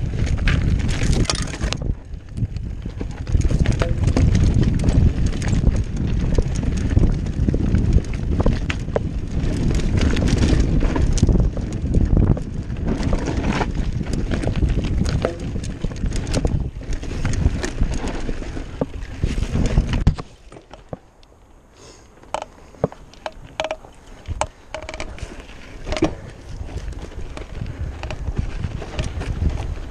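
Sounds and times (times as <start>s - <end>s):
wind buffeting microphone: 0.0s - 21.0s, 22.3s - 29.9s
mountain bike rattling over rocks: 0.0s - 21.2s, 22.2s - 29.9s
bike tyres rolling: 0.0s - 29.9s.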